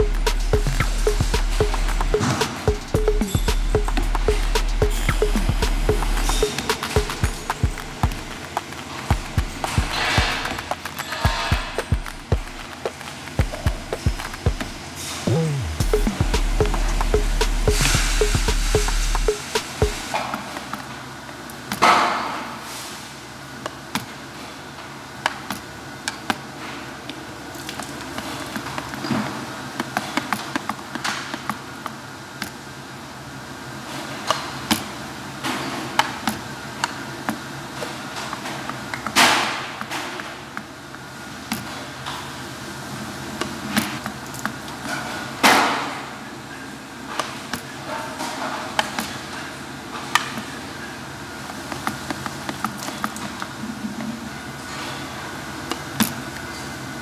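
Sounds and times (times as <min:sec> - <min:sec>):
faint machinery hum: 0:00.0 - 0:57.0.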